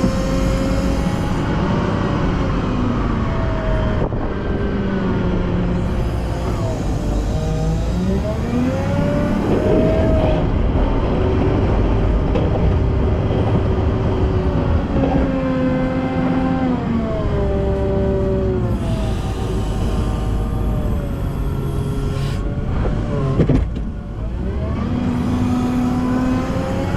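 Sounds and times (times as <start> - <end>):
wheel loader diesel engine: 0.0 - 26.9.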